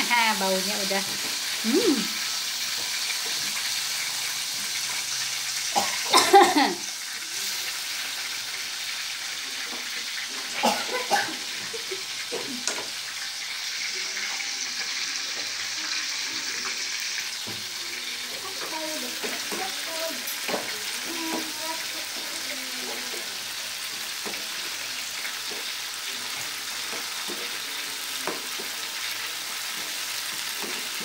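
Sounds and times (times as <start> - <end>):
sauce sizzling in oil: 0.0 - 31.0.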